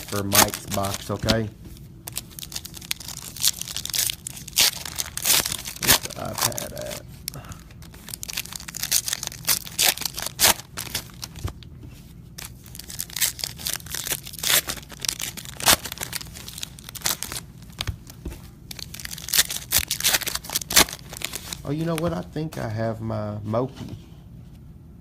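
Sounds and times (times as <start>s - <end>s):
packaging crinkling and tearing: 0.0s - 11.6s, 12.4s - 22.2s.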